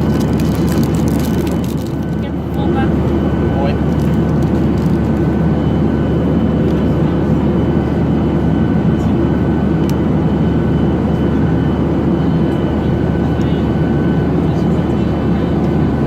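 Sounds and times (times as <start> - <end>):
airplane cabin engine rush: 0.0 - 16.0.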